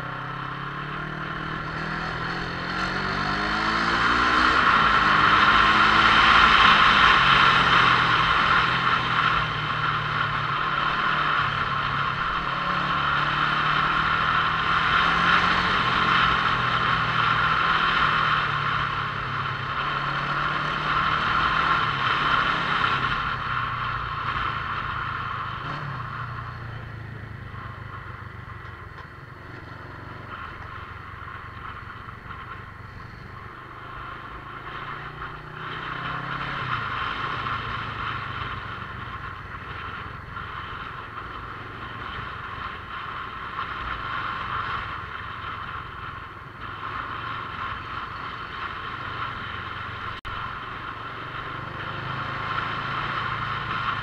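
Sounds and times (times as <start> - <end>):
motorcycle engine running: 0.0 - 54.0
road noise: 0.0 - 54.0
wind: 0.0 - 54.0.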